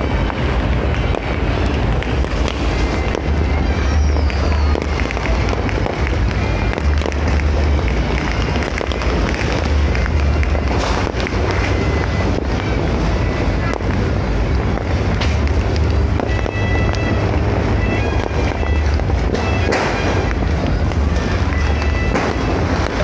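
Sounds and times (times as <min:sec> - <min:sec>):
fireworks popping and crackling: 0:00.0 - 0:23.0
wind rumble on microphone: 0:00.0 - 0:23.0.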